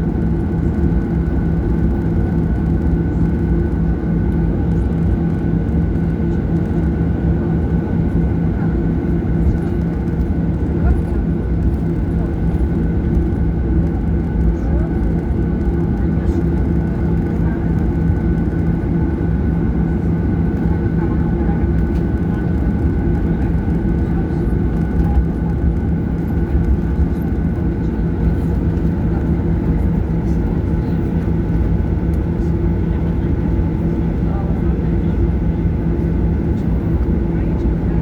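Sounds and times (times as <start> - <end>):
airplane cabin engine drone: 0.0 - 38.0.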